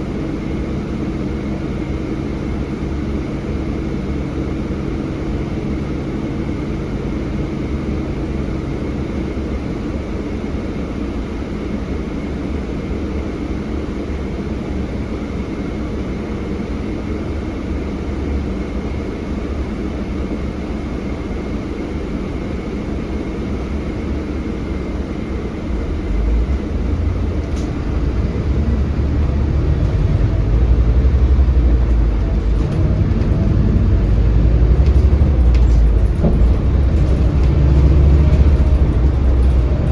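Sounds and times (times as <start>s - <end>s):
bus diesel engine: 0.0s - 39.9s
road noise inside bus: 0.0s - 39.9s.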